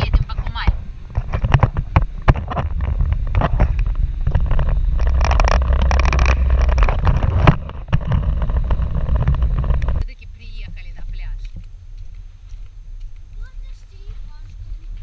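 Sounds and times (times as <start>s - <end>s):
engine and road rumble: 0.0s - 15.0s
wind noise: 0.0s - 15.0s.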